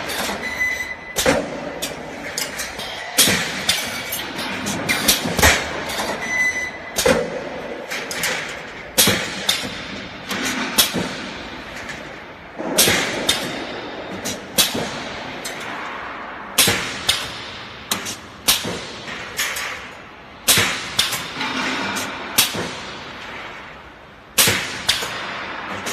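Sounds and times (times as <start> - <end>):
metallic clanks and knocks: 0.0 - 25.9.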